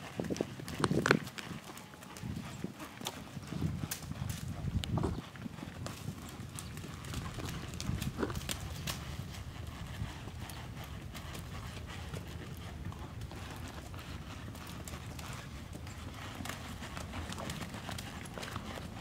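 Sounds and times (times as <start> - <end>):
horse hooves cantering on dirt: 0.0 - 19.0.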